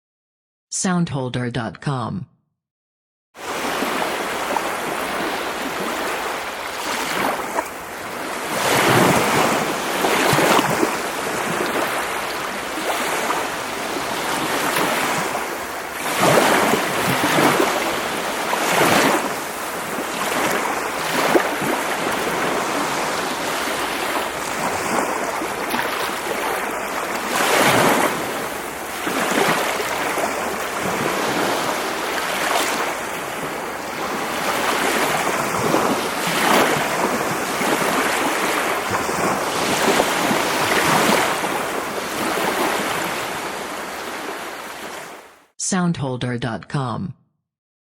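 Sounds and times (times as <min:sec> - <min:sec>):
waves breaking on shore: 0:03.4 - 0:45.5.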